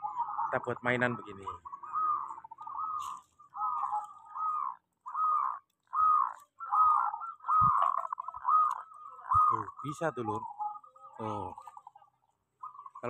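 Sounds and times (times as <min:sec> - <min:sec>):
doves cooing: 0:00.0 - 0:13.0.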